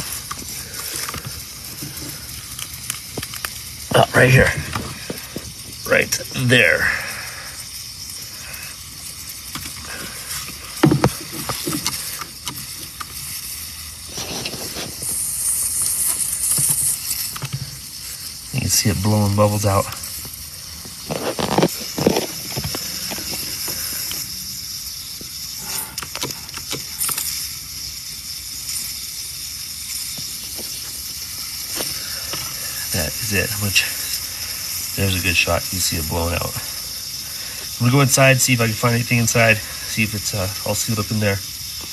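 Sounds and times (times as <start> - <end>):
refrigerant hissing and bubbling: 0.0 - 41.9.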